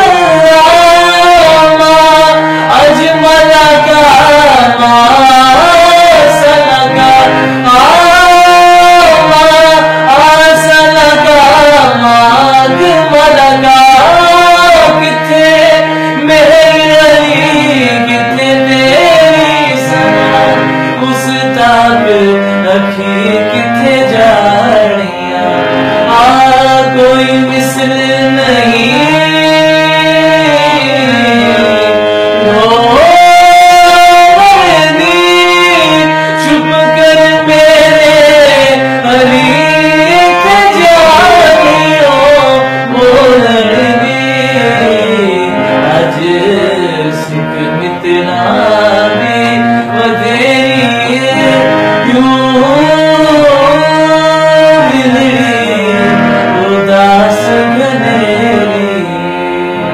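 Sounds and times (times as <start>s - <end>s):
harmonium: 0.0s - 59.9s
man singing: 0.0s - 59.9s.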